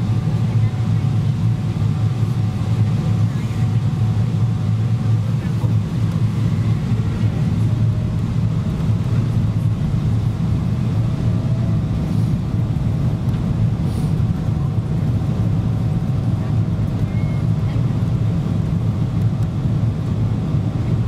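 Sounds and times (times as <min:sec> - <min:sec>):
low rumble of engines and airflow: 0:00.0 - 0:21.0.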